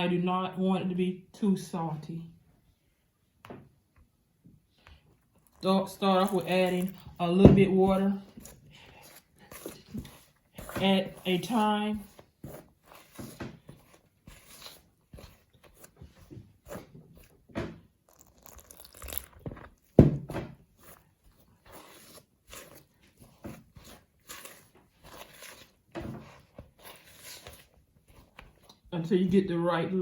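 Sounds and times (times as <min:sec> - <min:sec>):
dough squishing in a bowl: 0:03.1 - 0:30.0.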